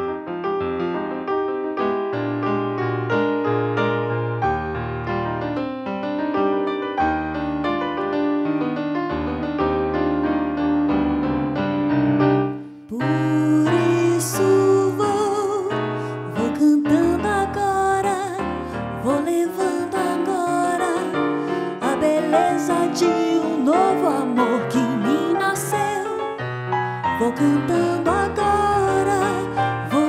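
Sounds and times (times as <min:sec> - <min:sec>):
piano playing: 0:00.0 - 0:30.0.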